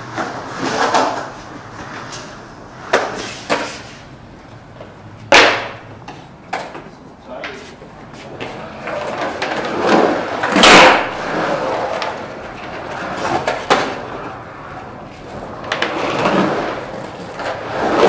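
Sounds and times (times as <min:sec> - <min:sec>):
skateboard clacks: 0:00.0 - 0:18.0
skateboard wheels rolling on concrete: 0:00.0 - 0:18.0.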